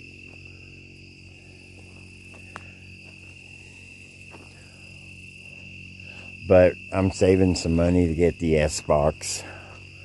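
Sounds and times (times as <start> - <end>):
crickets trilling: 0.0 - 10.0
low steady hum: 0.0 - 10.0.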